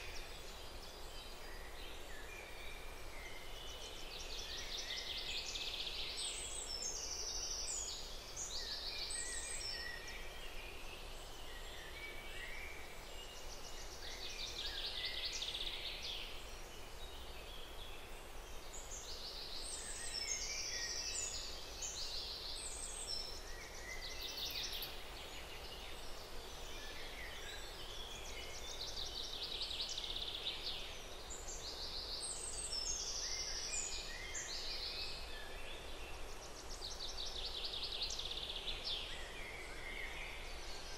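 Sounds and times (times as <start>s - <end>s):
outdoor ambience hiss: 0.0s - 40.9s.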